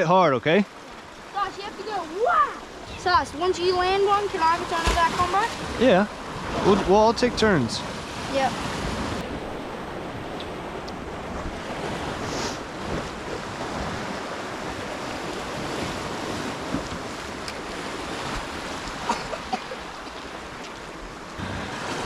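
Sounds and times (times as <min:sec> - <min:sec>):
ocean surf washing on shore: 0:00.0 - 0:22.0
wind on microphone: 0:02.3 - 0:22.0.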